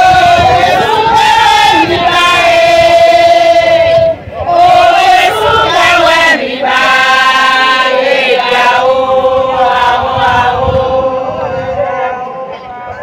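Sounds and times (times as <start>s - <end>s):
women chanting: 0.0s - 12.7s.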